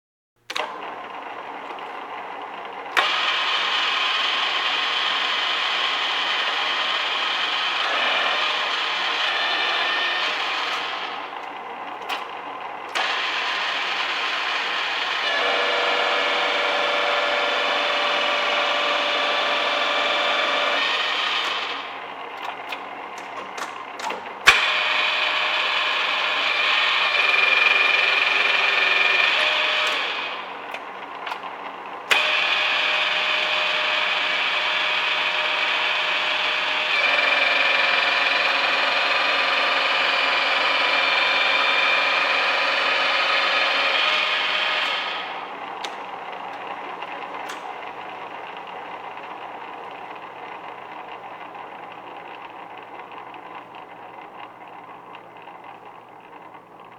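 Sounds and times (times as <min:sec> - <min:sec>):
milling machine whining: 0:00.5 - 0:56.9.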